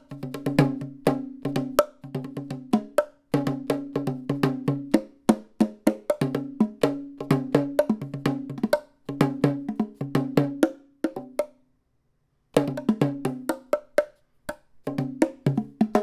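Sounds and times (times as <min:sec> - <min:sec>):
bongos played by hand: 0:00.0 - 0:11.6, 0:12.6 - 0:16.0.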